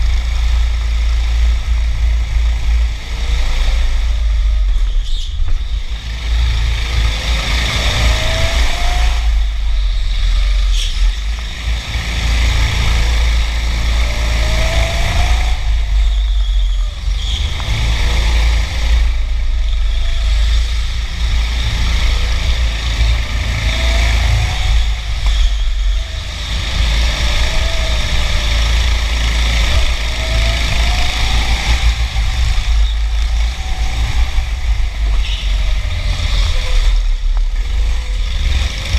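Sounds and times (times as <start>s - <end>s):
racing kart engine accelerating: 0.0s - 38.9s.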